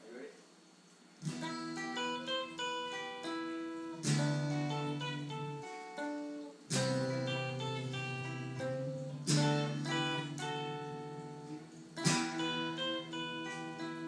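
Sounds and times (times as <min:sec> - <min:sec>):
guitar strumming chords: 0:01.2 - 0:14.0
picked guitar notes: 0:01.2 - 0:14.0.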